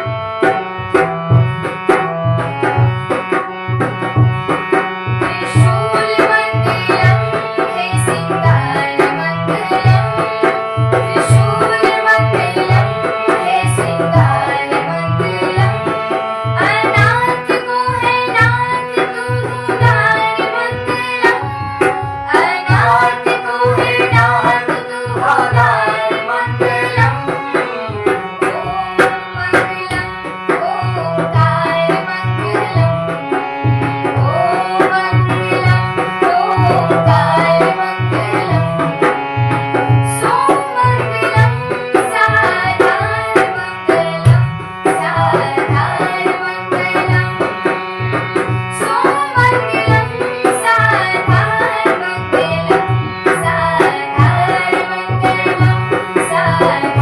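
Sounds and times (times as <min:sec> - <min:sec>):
tabla beat: 0:00.0 - 0:57.0.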